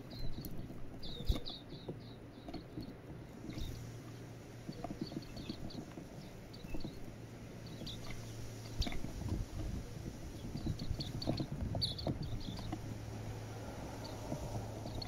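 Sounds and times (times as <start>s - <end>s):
birds pecking on wooden feeder: 0.0s - 15.0s.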